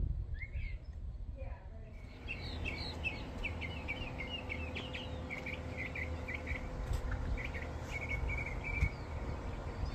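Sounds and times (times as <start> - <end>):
low rumble of outdoor air: 0.0 - 9.9
small birds chirping: 0.3 - 9.9.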